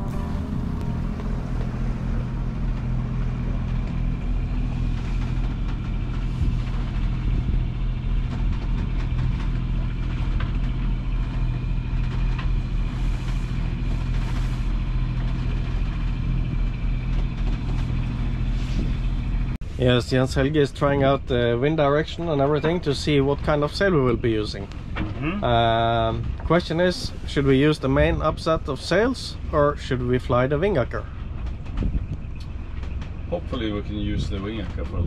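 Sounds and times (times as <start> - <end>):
diesel engine low drone: 0.0 - 35.0.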